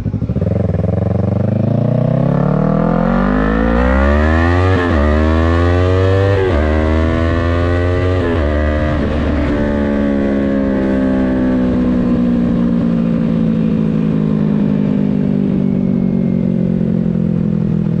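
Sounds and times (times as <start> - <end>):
motorcycle engine decelerating: 0.0 - 18.0.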